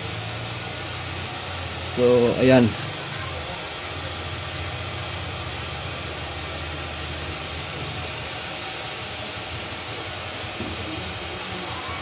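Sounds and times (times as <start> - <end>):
constant hiss: 0.0 - 12.0.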